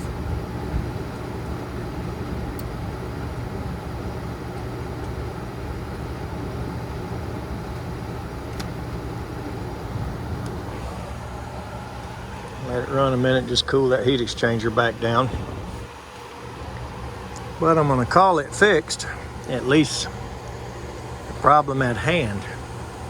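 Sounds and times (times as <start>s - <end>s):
furnace blower fan humming: 0.0s - 23.0s.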